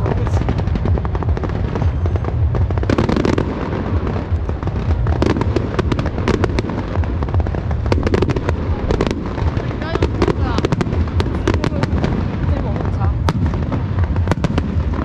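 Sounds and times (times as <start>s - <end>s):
firework bursts and crackling: 0.0s - 15.0s
low rumble: 0.0s - 15.0s
sharp firework bangs: 0.0s - 15.0s.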